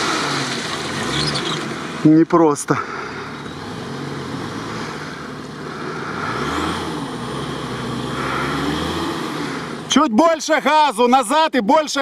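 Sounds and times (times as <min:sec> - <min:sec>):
off-road vehicle engine revving: 0:00.0 - 0:10.2.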